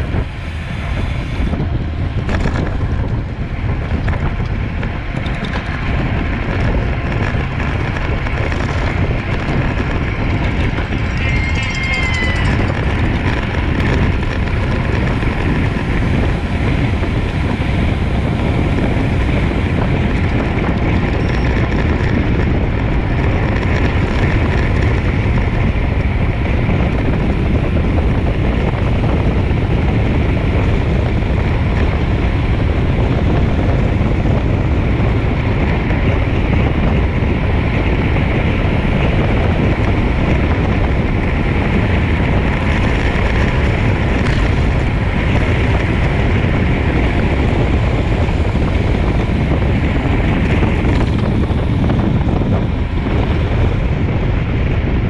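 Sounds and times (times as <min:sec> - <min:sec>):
wind noise on microphone: 0:00.0 - 0:55.0.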